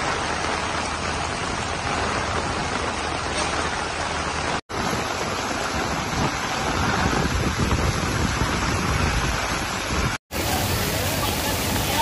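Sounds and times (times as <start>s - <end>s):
wind rumble on microphone: 0.0s - 10.2s
heavy rain on a road: 0.0s - 12.0s.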